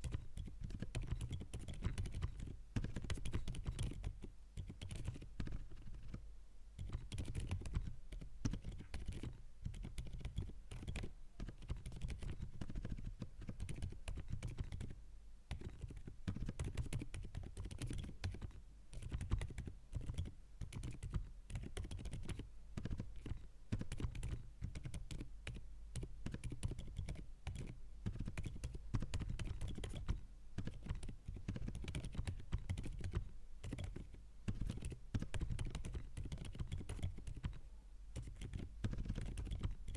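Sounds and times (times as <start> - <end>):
mechanical keyboard typing: 0.0 - 6.2, 6.8 - 37.6, 38.2 - 39.9.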